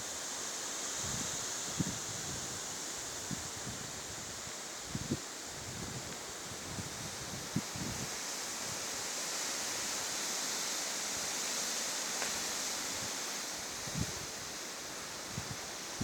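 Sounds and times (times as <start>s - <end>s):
blizzard wind hissing: 0.0s - 16.0s.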